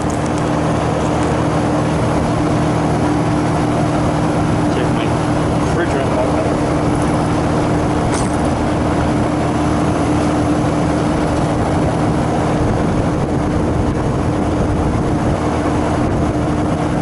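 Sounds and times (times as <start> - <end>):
compressor humming: 0.0 - 17.0
fan rushing air: 0.0 - 17.0.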